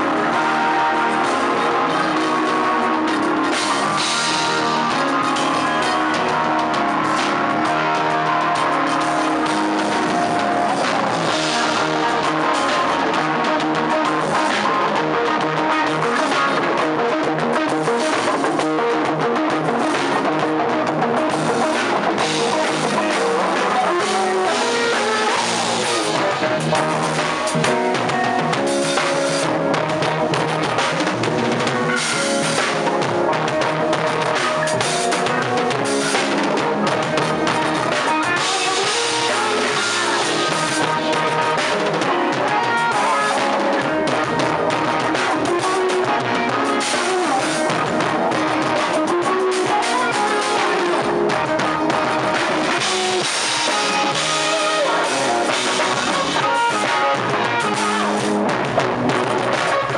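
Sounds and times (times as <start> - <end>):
drum kit with cymbals: 0.0 - 59.9
electric bass: 0.0 - 59.9
organ chords: 0.0 - 59.9.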